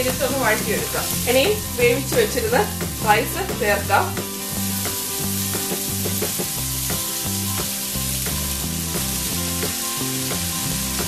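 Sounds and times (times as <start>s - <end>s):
background music: 0.0s - 11.0s
vegetables sizzling in oil: 0.0s - 11.0s.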